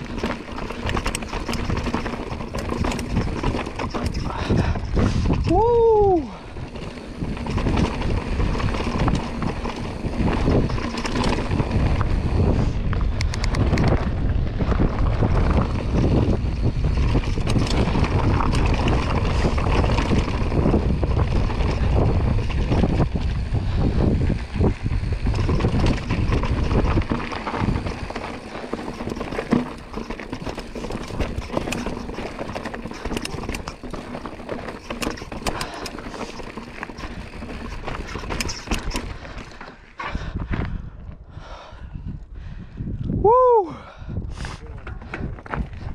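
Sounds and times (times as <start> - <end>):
tyres crunching on loose rock: 0.0 - 5.5, 6.5 - 40.7, 44.6 - 45.9
bike rattling: 0.0 - 42.8, 44.0 - 45.9
wind on microphone: 0.0 - 45.9.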